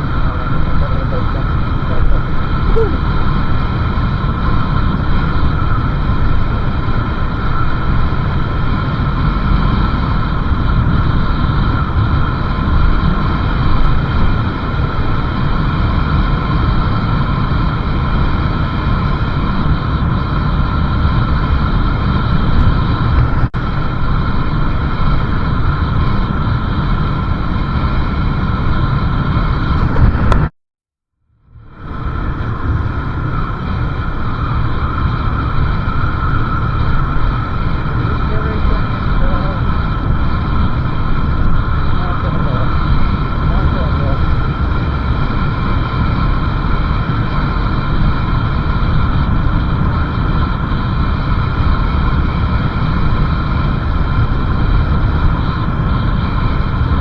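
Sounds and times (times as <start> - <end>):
wind rushing over microphone: 0.0 - 30.5, 31.6 - 57.0.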